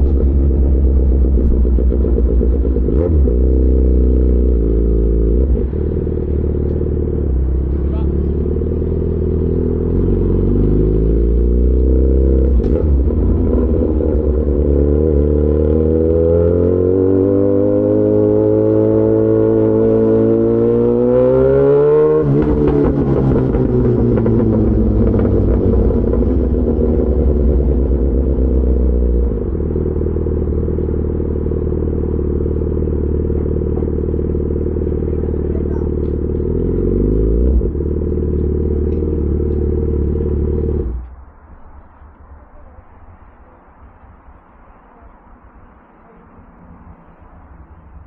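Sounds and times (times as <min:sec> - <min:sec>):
motorcycle engine accelerating: 0:00.0 - 0:41.2.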